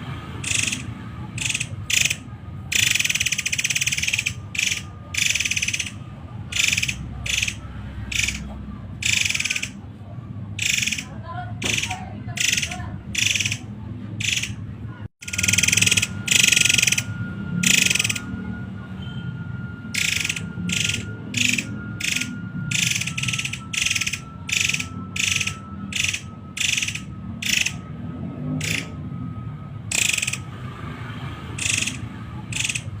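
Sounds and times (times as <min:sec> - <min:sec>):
bird giving harsh rattling calls: 0:00.4 - 0:09.8, 0:10.6 - 0:14.6, 0:15.2 - 0:18.3, 0:19.9 - 0:27.8, 0:28.6 - 0:29.0, 0:29.9 - 0:30.5, 0:31.6 - 0:33.0.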